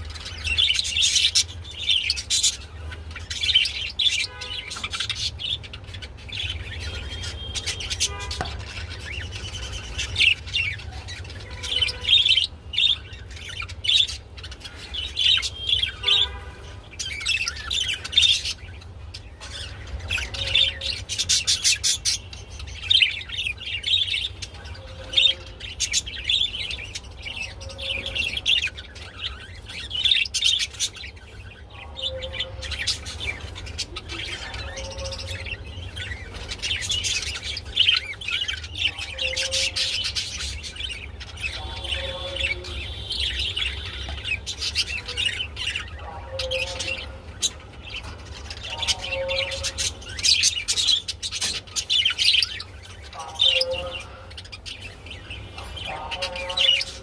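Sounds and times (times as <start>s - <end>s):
budgerigars chirping: 0.0s - 57.0s.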